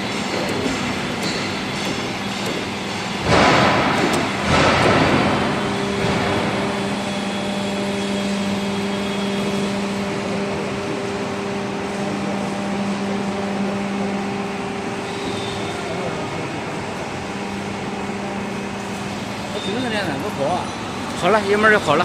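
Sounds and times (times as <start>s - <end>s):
pump motor humming: 0.0s - 22.0s.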